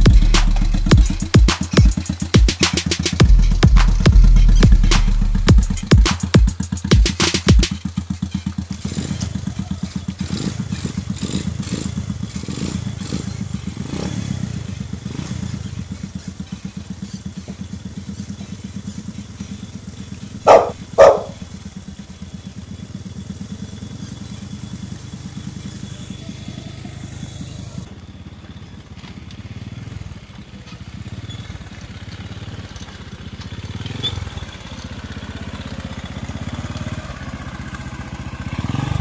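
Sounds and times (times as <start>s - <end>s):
motorcycle engine puttering: 0.0s - 39.0s.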